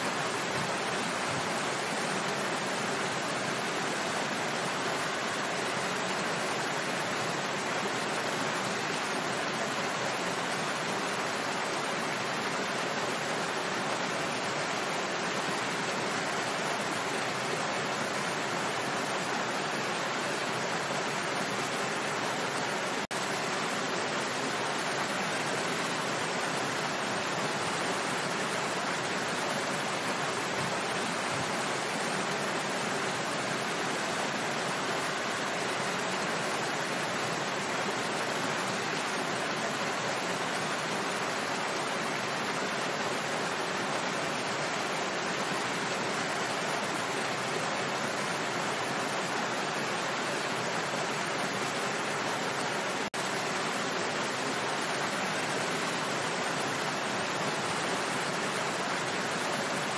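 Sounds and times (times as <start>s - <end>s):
waterfall splashing: 0.0s - 59.9s.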